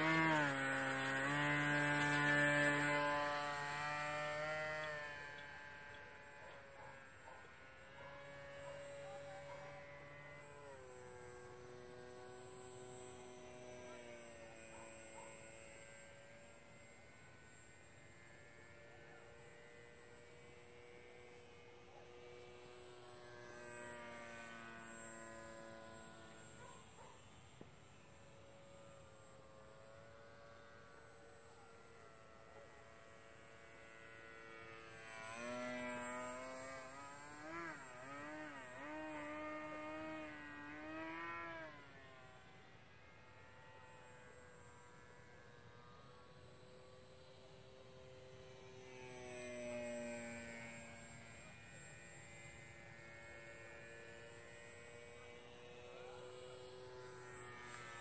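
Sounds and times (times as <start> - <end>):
model plane motor buzzing: 0.0 - 58.0.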